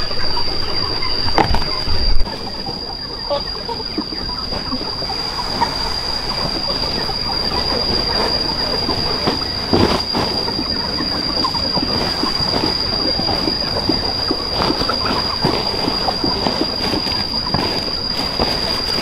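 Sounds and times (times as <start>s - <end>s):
cicadas droning: 0.0s - 19.0s
rustle: 3.3s - 19.0s.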